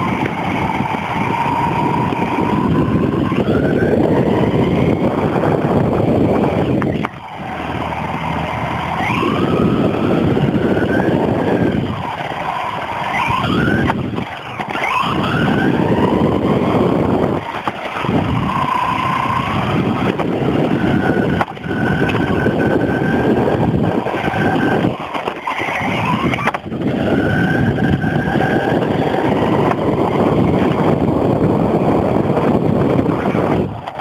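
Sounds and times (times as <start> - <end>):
rc car motor whine: 0.0 - 34.0
wheels rumbling on ground: 0.0 - 34.0.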